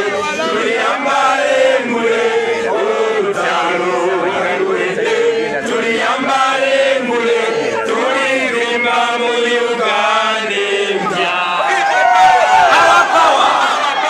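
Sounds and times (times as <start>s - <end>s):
crowd chanting: 0.0s - 14.0s.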